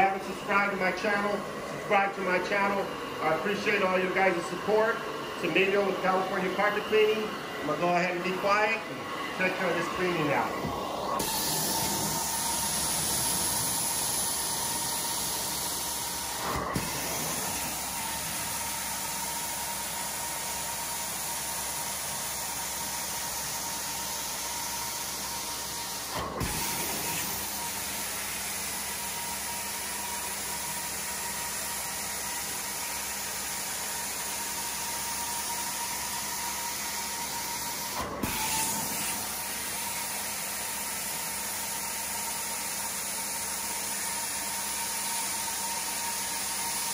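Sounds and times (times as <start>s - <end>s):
carpet cleaner suction hiss: 0.0s - 46.9s.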